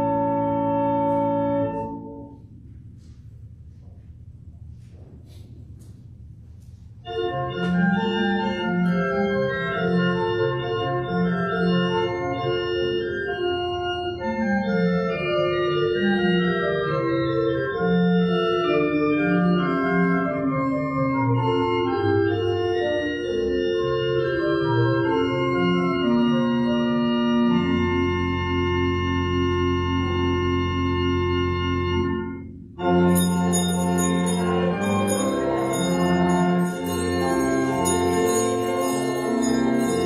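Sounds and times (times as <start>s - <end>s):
church organ playing: 0.0s - 2.4s, 7.0s - 40.0s.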